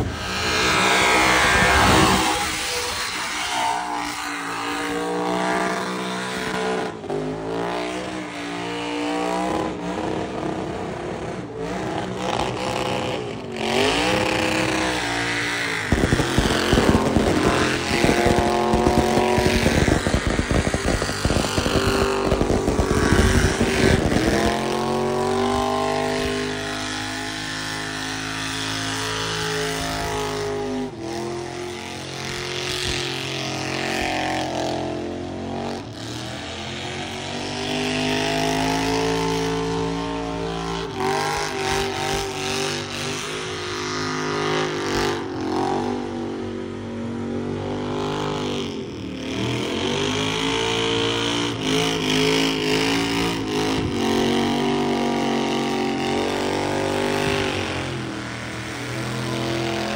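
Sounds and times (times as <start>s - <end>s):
truck engine revving hard: 0.0s - 46.4s, 47.4s - 59.9s.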